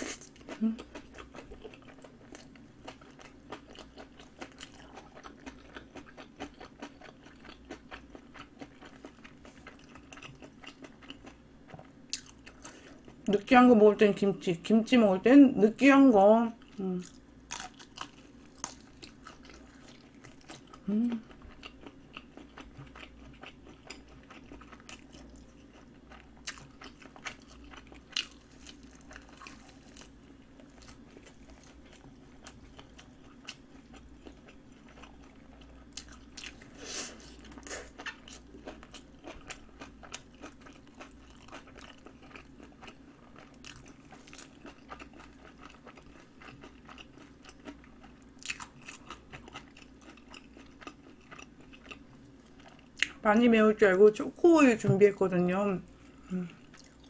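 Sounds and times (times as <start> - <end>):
soft chewing and mouth clicks: 0.0 - 13.3, 16.6 - 53.2, 55.9 - 57.0
faint steady hum: 0.0 - 57.0.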